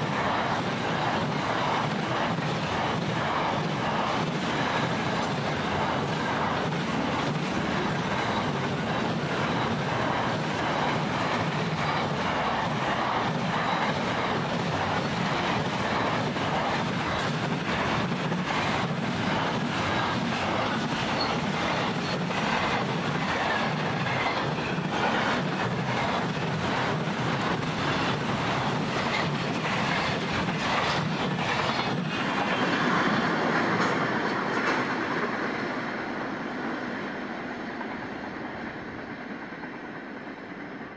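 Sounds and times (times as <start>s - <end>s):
freight train wheels clacking: 0.0s - 40.9s.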